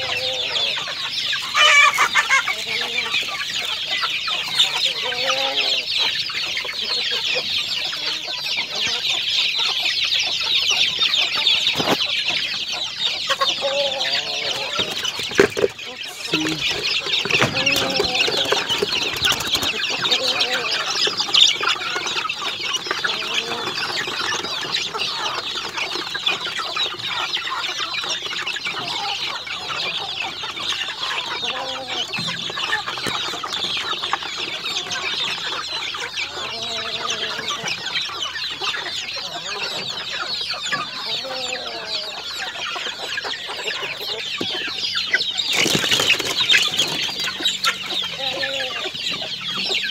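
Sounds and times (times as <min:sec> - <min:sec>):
chicks peeping: 0:00.0 - 0:49.9
lower clucking calls: 0:00.0 - 0:49.9.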